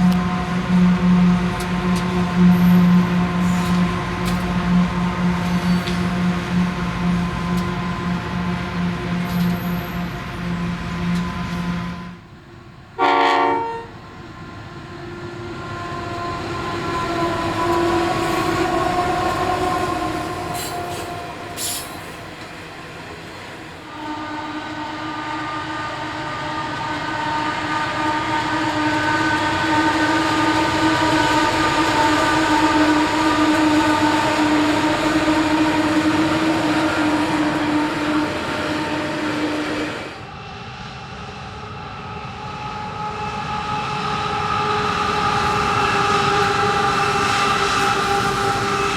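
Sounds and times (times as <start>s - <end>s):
diesel locomotive engine drone: 0.0s - 48.9s.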